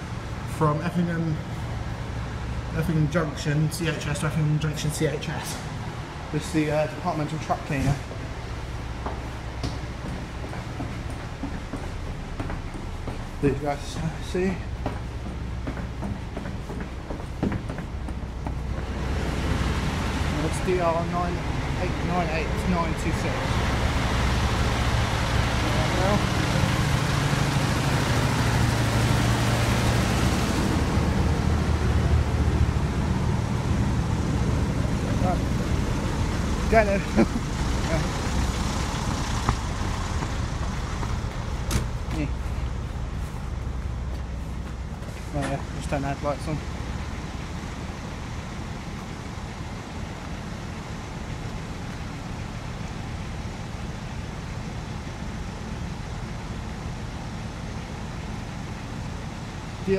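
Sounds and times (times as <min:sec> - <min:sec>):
diesel engines humming: 0:00.0 - 0:59.9.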